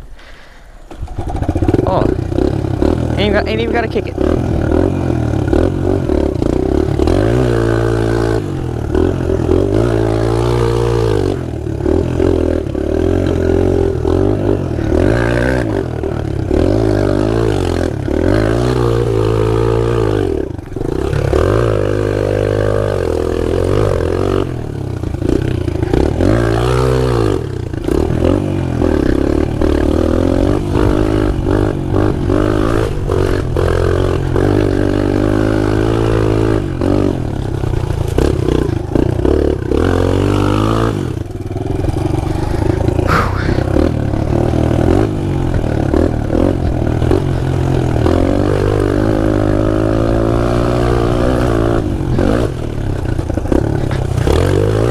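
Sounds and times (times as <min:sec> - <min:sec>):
pit bike engine revving: 0:00.1 - 0:54.9.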